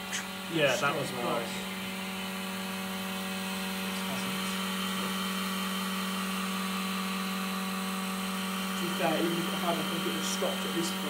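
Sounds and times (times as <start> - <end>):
vacuum pump humming: 0.0 - 11.0.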